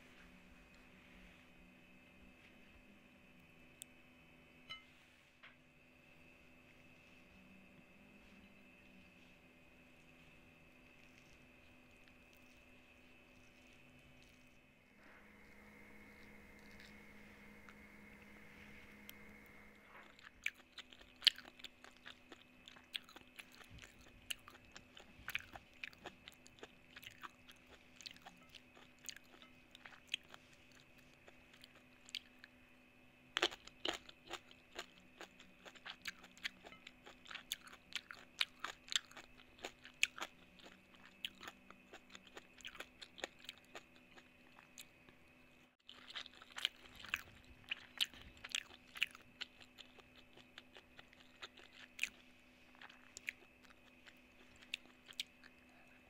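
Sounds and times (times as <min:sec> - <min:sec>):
faint steady hum: 0:00.0 - 0:56.0
chewing and crunching food: 0:06.6 - 0:56.0.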